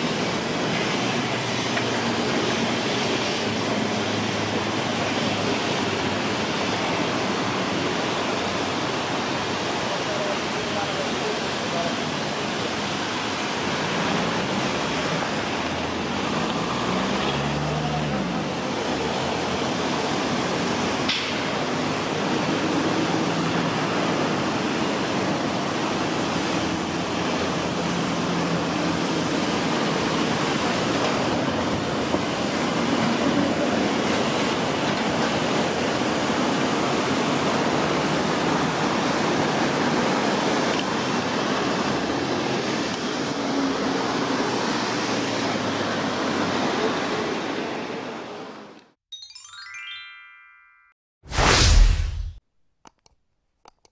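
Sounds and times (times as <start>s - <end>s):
street traffic noise: 0.0s - 49.0s.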